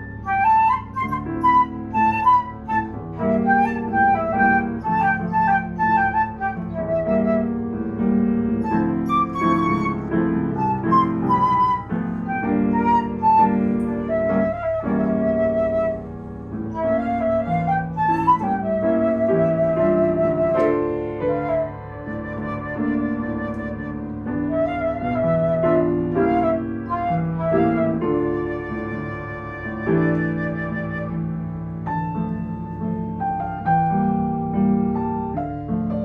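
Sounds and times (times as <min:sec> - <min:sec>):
flute melody: 0:00.0 - 0:34.6
piano chords: 0:00.0 - 0:36.0.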